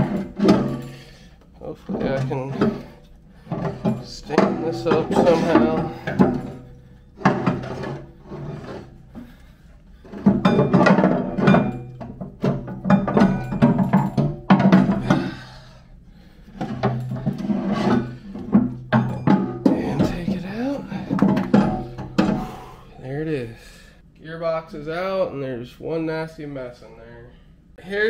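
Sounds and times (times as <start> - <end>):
metal knocks and clunks: 0.0 - 22.9.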